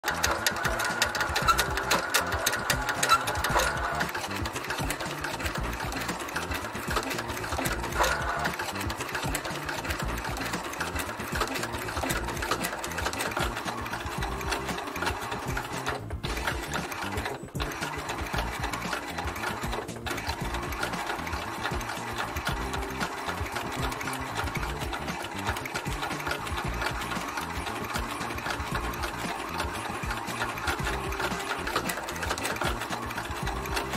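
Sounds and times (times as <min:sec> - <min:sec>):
sewing machine needle chatter: 0:00.0 - 0:33.9.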